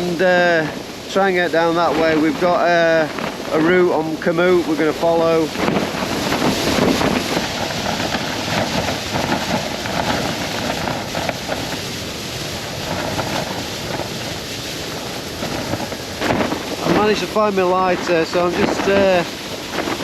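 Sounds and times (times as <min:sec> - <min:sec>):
blizzard wind gusting: 0:00.0 - 0:20.0
tent fabric flapping: 0:00.0 - 0:20.0
wind blasting microphone: 0:00.0 - 0:20.0.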